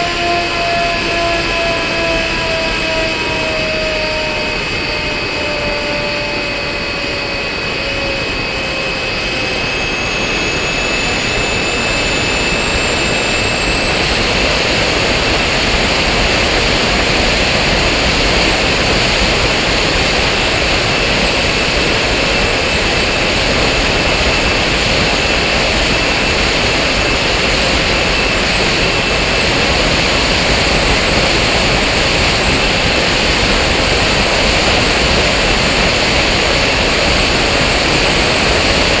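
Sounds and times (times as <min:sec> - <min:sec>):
motor and propeller whine: 0:00.0 - 0:39.0.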